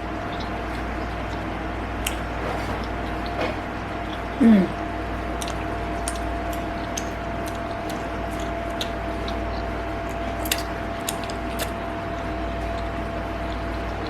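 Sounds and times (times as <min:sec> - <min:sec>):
chewing crunchy bread: 0:00.0 - 0:14.0
steady background hum: 0:00.0 - 0:14.0.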